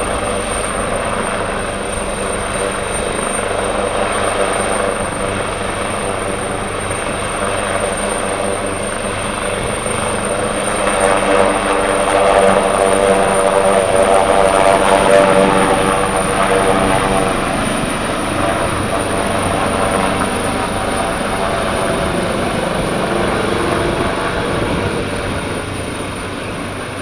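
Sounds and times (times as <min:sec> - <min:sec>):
helicopter engines and rotor: 0:00.0 - 0:27.0.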